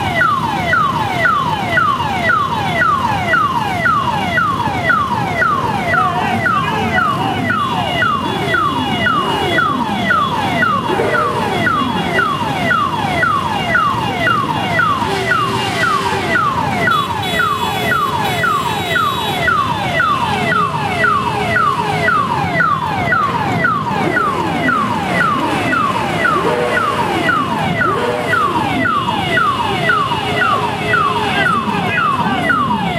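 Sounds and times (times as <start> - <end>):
electronic siren sweeping: 0.0 - 32.9
motorcycle engines revving: 0.0 - 32.9.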